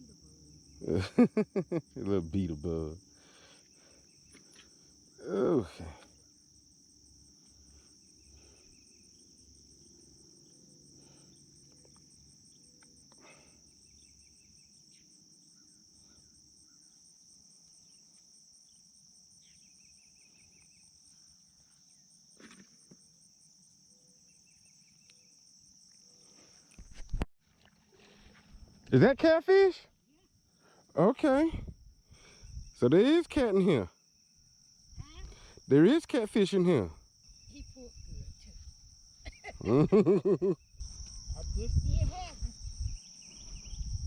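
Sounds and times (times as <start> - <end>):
insect chirping: 0.0 - 44.0
insect pulsing trill: 0.0 - 44.0
insects droning: 0.0 - 44.0.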